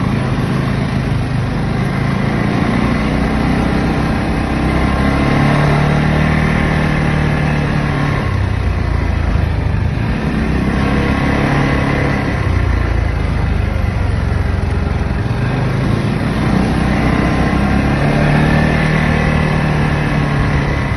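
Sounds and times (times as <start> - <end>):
atv engine revving: 0.0 - 20.9.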